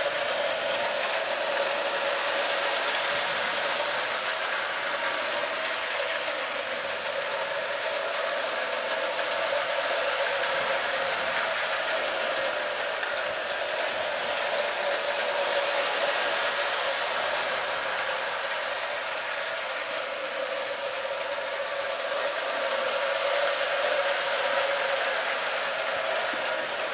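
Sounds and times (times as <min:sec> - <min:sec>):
toy train wheels clicking on rails: 0:00.0 - 0:26.9.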